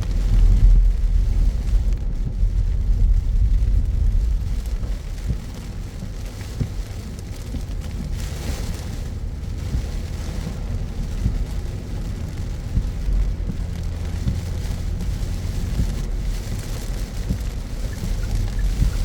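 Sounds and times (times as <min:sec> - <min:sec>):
car engine and road rumble: 0:00.0 - 0:19.0
rain and wet tyres hissing: 0:00.0 - 0:19.0.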